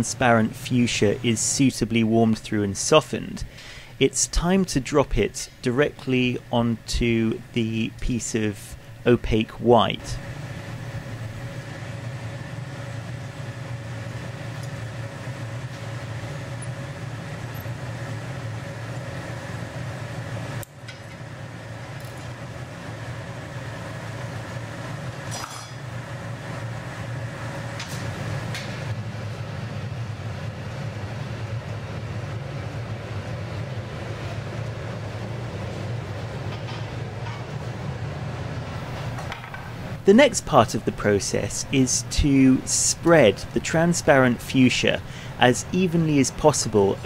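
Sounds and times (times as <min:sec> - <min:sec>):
furnace burners rumbling: 0:00.0 - 0:47.0.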